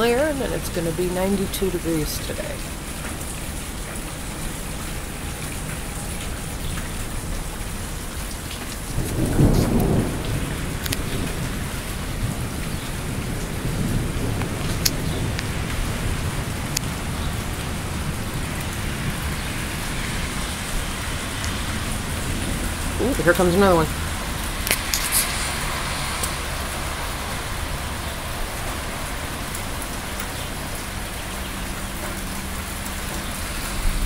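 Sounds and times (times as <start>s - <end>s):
steady rain falling: 0.0s - 34.0s
thunder rumbling: 0.0s - 34.0s.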